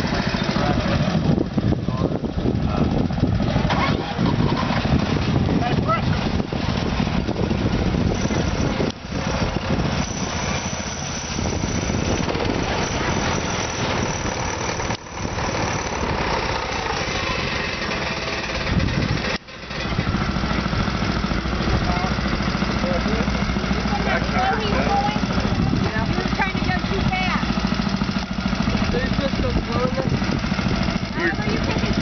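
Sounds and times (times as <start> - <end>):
garden tractor engine running: 0.0 - 32.0.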